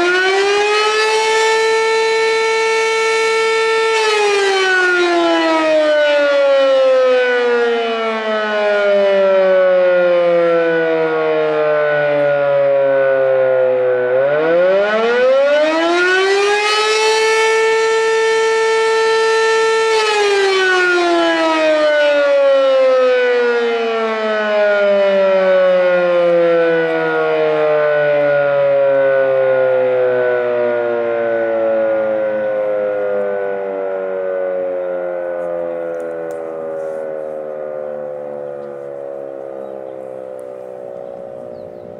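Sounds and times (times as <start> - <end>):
warning siren rising and falling: 0.0 - 41.9.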